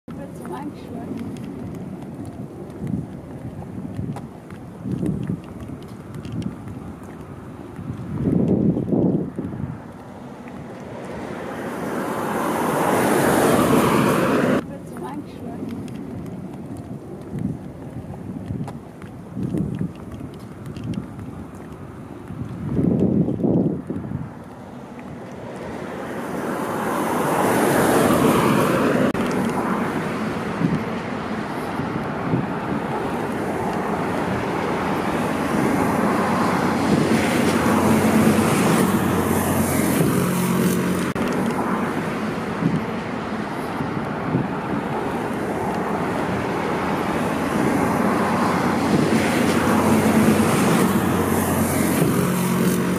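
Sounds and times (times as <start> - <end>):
cars passing: 0.1 - 52.9.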